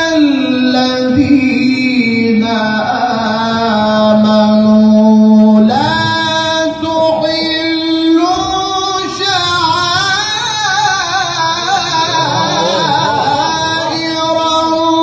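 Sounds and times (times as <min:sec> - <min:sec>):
person reciting melismatic chant: 0:00.0 - 0:15.0.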